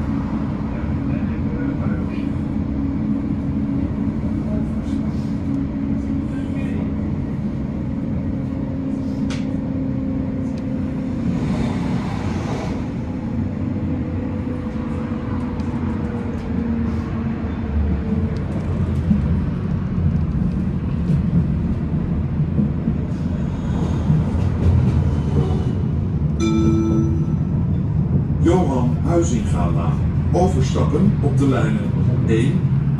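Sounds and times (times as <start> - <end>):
tram motor whine: 0.0 - 32.9
tram wheels rumbling on track: 0.0 - 32.9.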